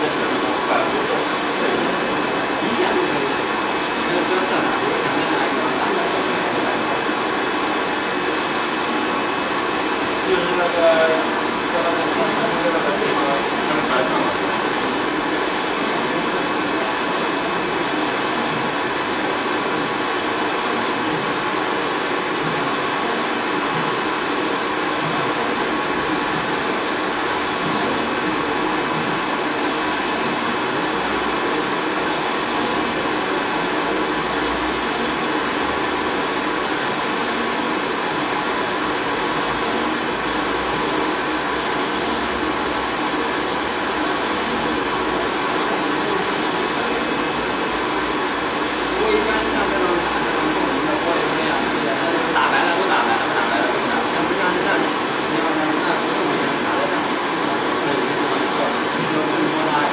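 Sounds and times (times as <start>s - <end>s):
printer mechanical whir and hiss: 0.0s - 59.9s.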